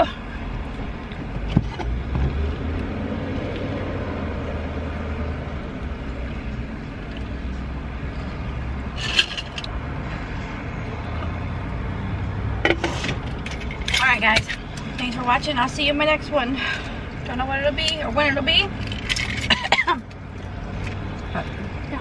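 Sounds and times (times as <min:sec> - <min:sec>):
car interior rumble: 0:00.0 - 0:22.0.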